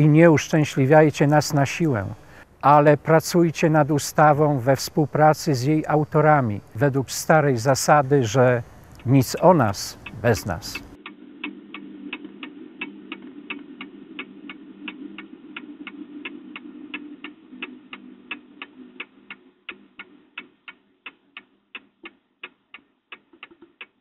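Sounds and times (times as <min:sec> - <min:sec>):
low steady drone: 0:00.0 - 0:20.3
clock-like ticking: 0:00.0 - 0:24.0.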